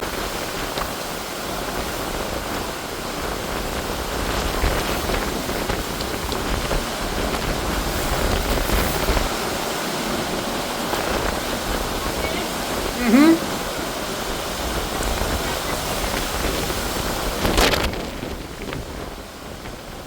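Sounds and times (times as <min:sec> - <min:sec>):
wind rumbling on microphone: 0:00.0 - 0:13.0, 0:14.1 - 0:20.0.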